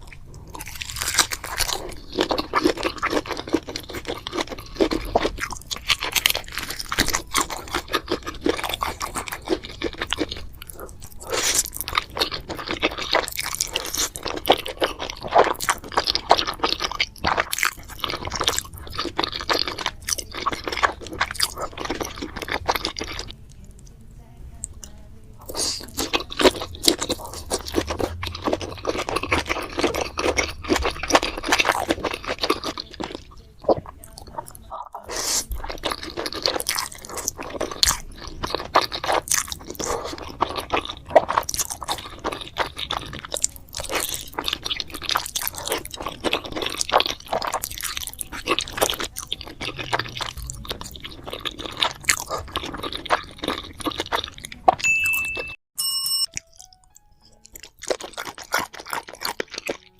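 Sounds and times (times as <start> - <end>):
person chewing and crunching food: 0.0 - 23.7, 24.6 - 55.6, 56.2 - 59.9.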